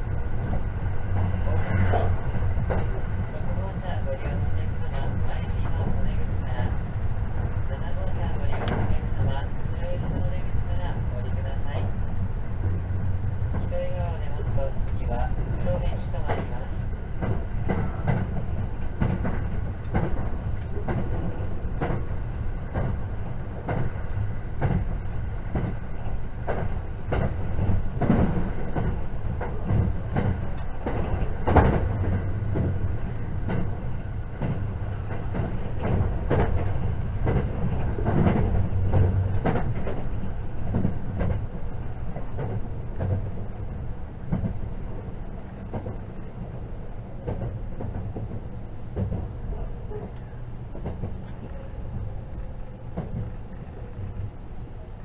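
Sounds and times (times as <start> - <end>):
train running low rumble: 0.0 - 55.0
wheels clicking on track: 0.0 - 55.0.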